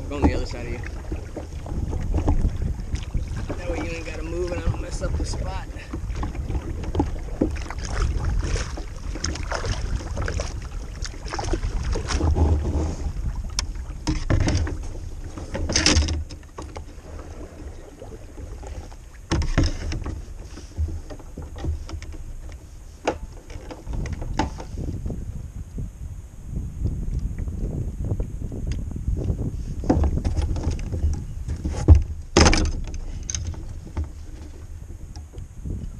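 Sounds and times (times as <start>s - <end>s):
paddle splashing in water: 0.0s - 25.3s, 29.3s - 35.9s
wind rumble on microphone: 0.0s - 35.9s.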